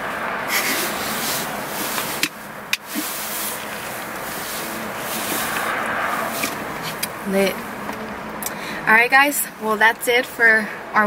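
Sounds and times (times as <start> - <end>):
rushing noise inside car: 0.0 - 11.0.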